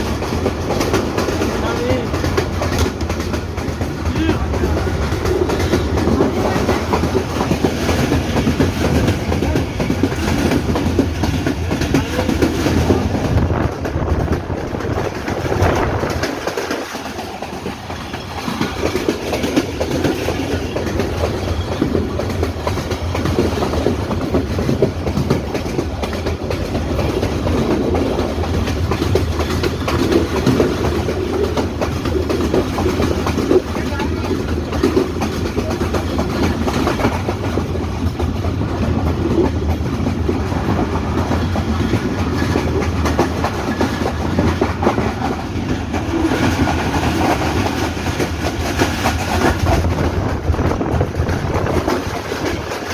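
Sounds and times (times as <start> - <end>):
train carriages rumbling: 0.0 - 52.9
wheels clattering over rail joints: 0.0 - 52.9.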